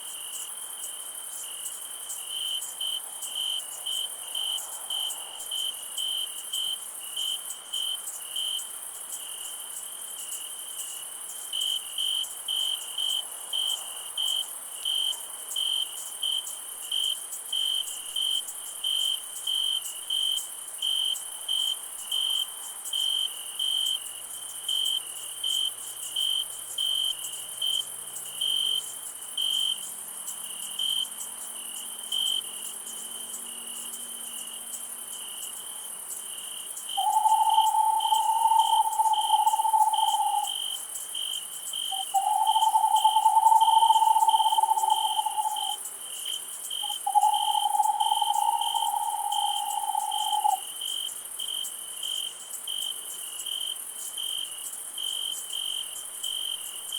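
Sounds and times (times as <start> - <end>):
cricket chirping: 0.0 - 56.9
high-pitched insect hum: 0.0 - 56.9.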